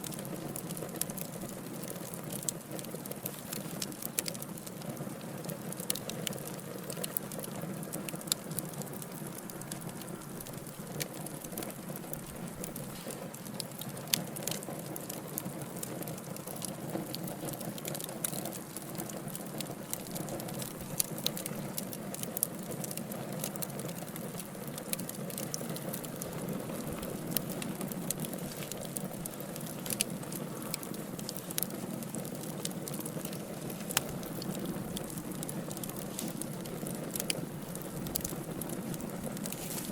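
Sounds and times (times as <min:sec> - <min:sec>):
wood logs crackling: 0:00.0 - 0:39.9.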